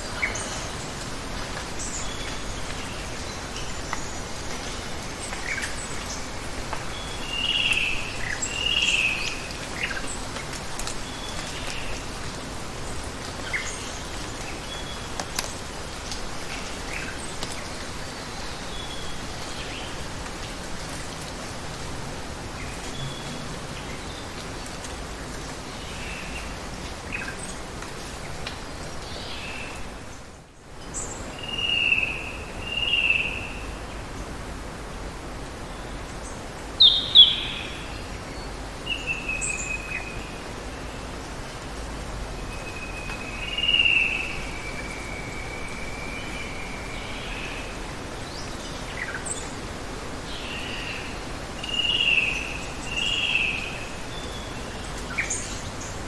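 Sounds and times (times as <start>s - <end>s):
forest birds calling: 0.0s - 20.1s, 22.5s - 34.1s, 35.6s - 41.7s, 42.4s - 56.0s
running water hiss: 0.0s - 56.0s.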